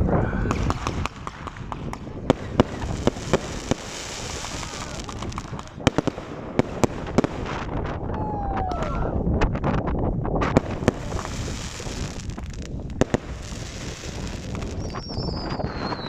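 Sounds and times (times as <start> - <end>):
fireworks bangs and pops: 0.4 - 8.2, 8.8 - 16.0.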